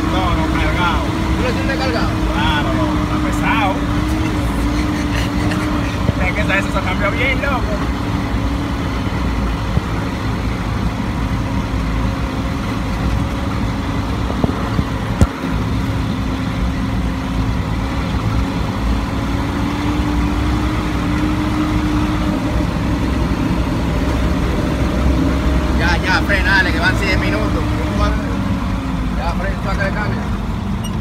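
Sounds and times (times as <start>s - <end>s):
road rumble: 0.0s - 31.0s
truck engine running: 0.0s - 31.0s.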